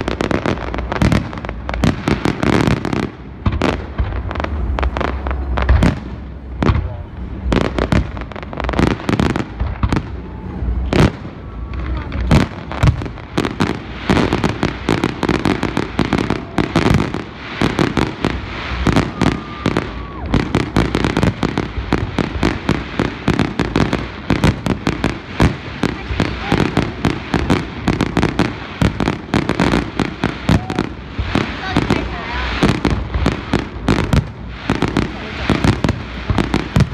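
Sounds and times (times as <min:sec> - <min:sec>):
fireworks bursting: 0:00.0 - 0:36.9.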